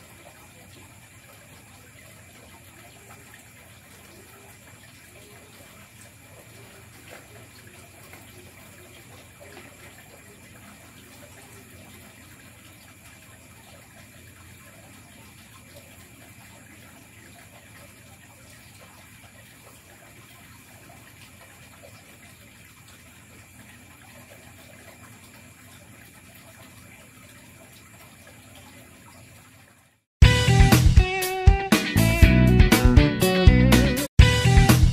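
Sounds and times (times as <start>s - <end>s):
insects trilling: 0.0s - 29.8s.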